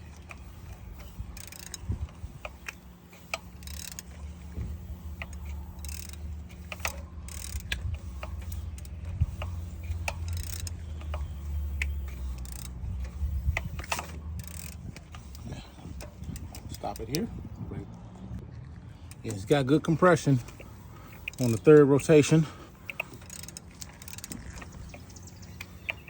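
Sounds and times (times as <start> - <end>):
mechanical clicks and ticks: 0.0 - 18.0, 19.0 - 26.0.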